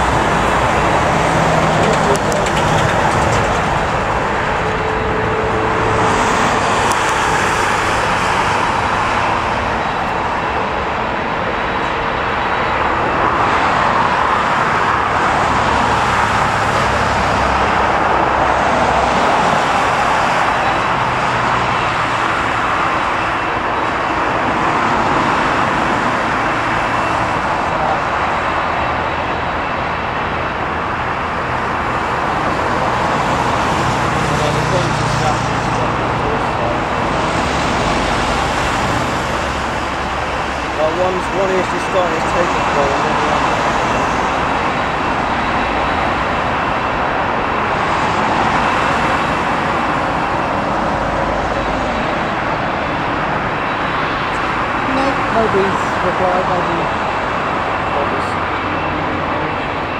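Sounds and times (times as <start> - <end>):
jet airliner taking off: 0.0 - 59.9.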